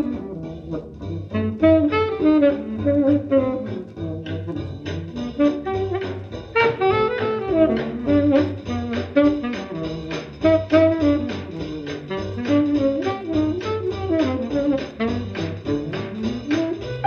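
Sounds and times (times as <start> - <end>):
swing dance band music: 0.0 - 17.0.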